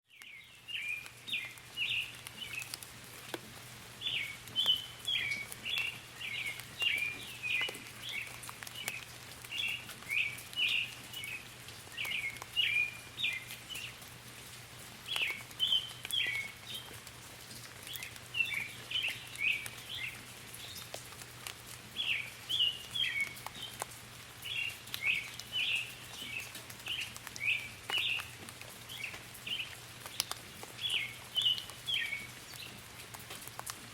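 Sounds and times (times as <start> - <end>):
light rain pattering: 0.0 - 33.9
songbirds chirping: 0.1 - 33.9.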